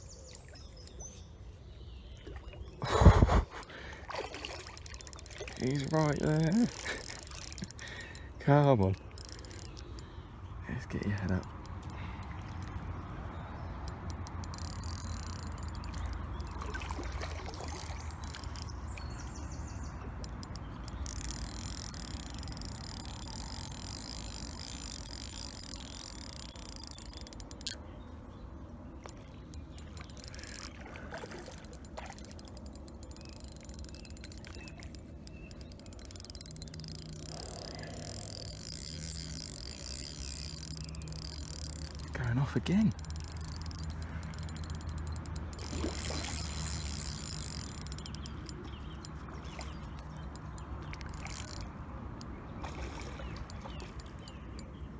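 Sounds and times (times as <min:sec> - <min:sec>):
fishing reel drag ticking: 0:00.3 - 0:01.0, 0:04.1 - 0:27.9, 0:29.0 - 0:54.9.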